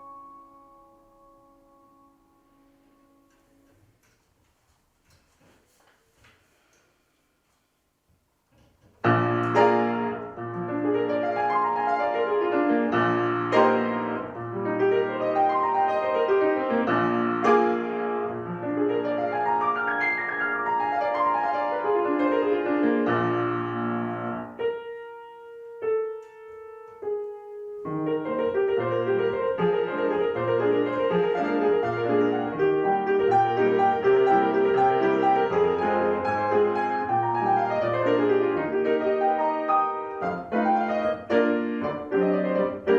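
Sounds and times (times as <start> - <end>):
solo piano classical piece: 0.0 - 4.1, 8.8 - 42.9.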